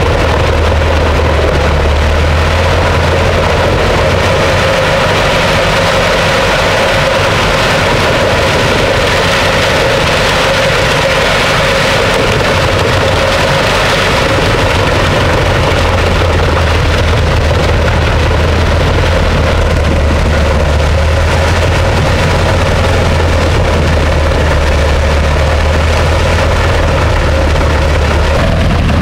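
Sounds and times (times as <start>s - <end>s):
wood chipper engine running: 0.0s - 29.0s.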